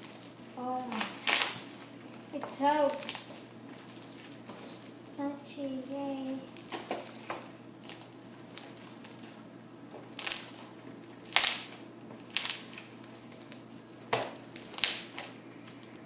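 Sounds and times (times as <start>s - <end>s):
slime being kneaded by hand: 0.0s - 16.0s.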